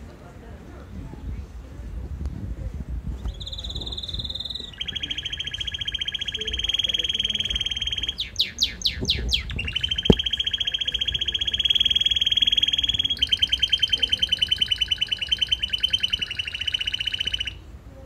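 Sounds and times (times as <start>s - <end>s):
canary singing trills: 3.2s - 17.7s.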